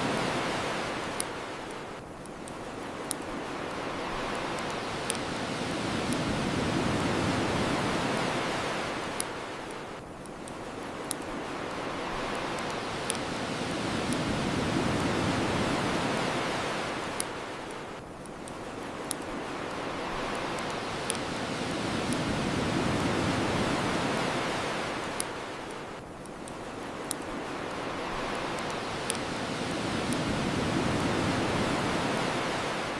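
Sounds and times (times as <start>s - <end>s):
ocean waves washing onto shore: 0.0s - 32.9s
bonfire crackling pops: 0.1s - 16.3s, 16.9s - 32.5s.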